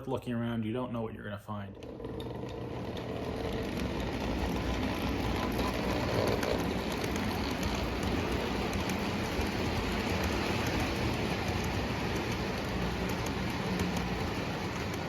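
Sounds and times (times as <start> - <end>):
toy train rumble and clatter: 1.6 - 15.0.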